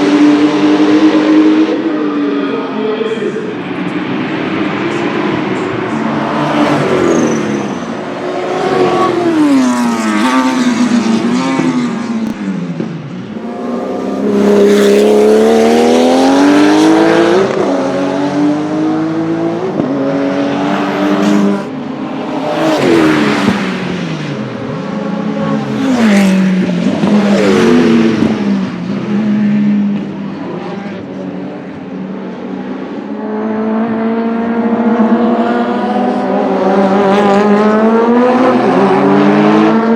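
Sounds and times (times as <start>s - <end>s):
race car engine revving: 0.0s - 2.7s, 3.4s - 39.9s.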